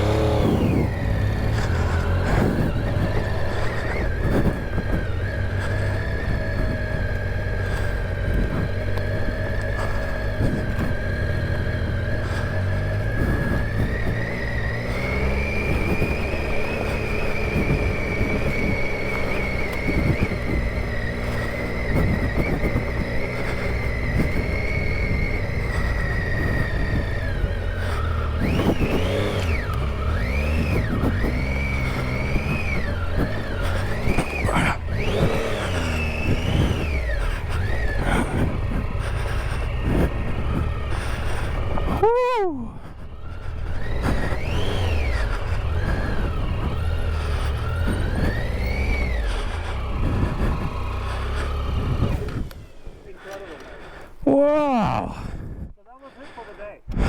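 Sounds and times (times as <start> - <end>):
motorcycle engine revving: 0.0 - 55.8
wind and ground rumble: 0.0 - 57.0.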